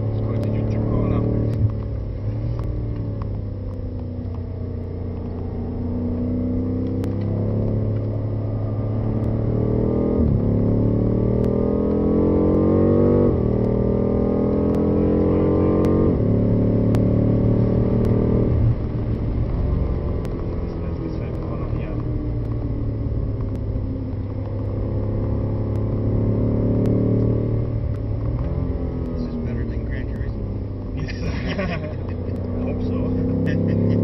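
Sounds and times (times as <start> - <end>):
car engine accelerating through gears: 0.0 - 34.0.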